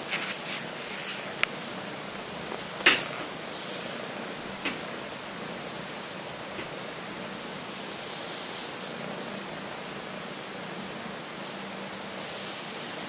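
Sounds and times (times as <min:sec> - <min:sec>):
microphone hiss: 0:00.0 - 0:13.0.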